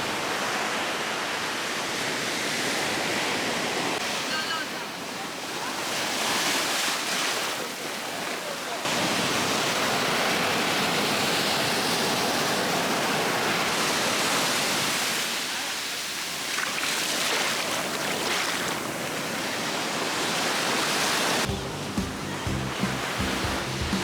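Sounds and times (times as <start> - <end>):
ocean surf on a beach: 0.0 - 24.0.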